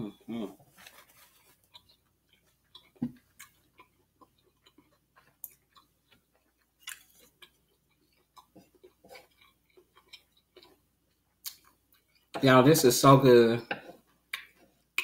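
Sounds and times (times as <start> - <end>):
person chewing food: 0.4 - 12.4, 13.6 - 15.0.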